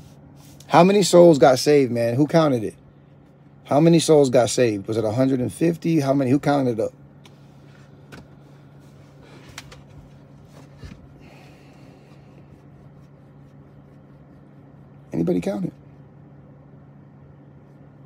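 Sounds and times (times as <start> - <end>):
low car cabin hum: 0.0 - 18.0.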